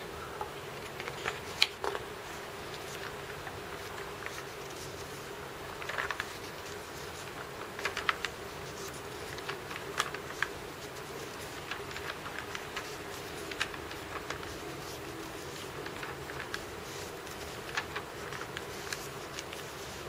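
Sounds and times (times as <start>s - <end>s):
steady hum: 0.0s - 20.0s
paper pages being turned: 0.8s - 20.0s.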